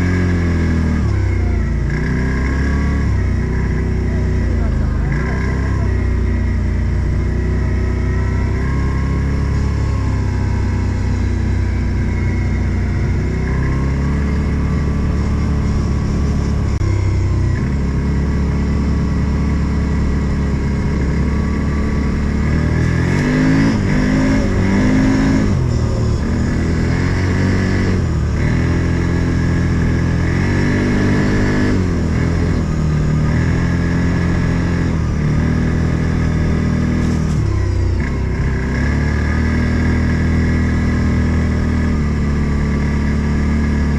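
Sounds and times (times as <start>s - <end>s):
off-road vehicle engine revving: 0.0s - 43.9s.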